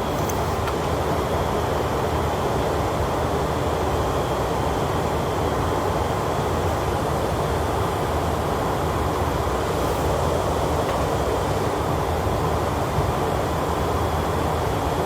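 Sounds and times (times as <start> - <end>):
cockpit airflow and engine noise: 0.0 - 15.0.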